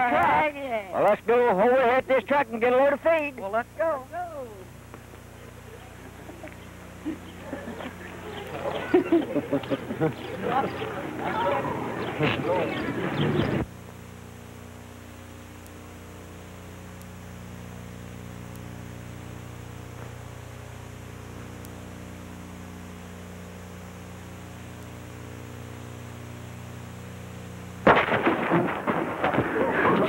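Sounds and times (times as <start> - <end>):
electrical hum with faint hiss: 0.0 - 30.0.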